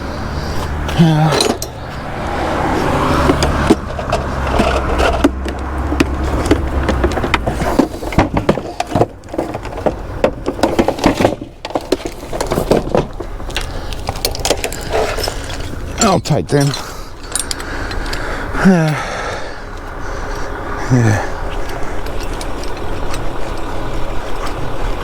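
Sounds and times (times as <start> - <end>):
metal tools clinking: 0.0 - 19.1, 21.3 - 24.8
vehicle engine humming: 0.0 - 25.0.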